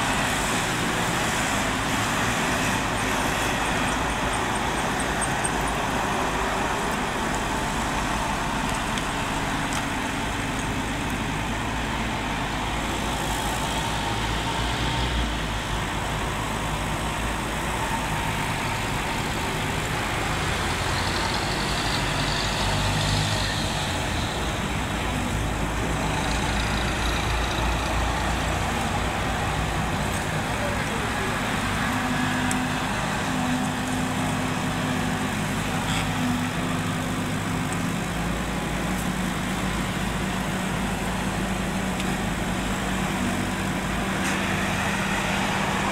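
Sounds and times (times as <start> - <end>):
passing road traffic: 0.0 - 45.9.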